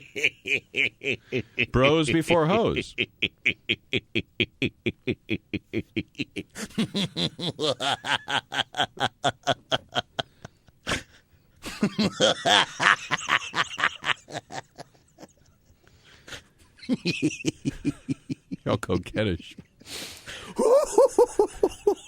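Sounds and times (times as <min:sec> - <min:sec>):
men laughing hard: 0:00.0 - 0:19.1, 0:20.3 - 0:22.0.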